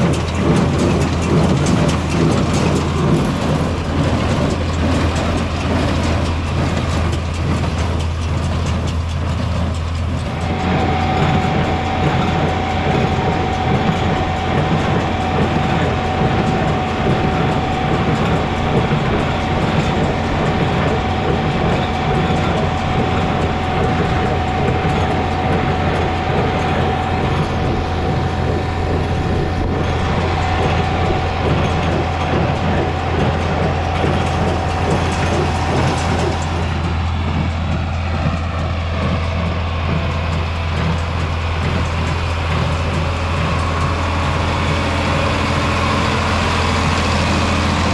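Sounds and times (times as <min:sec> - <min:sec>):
hay baler mechanism working: 0:00.0 - 0:47.9
tractor engine running under load: 0:00.0 - 0:47.9.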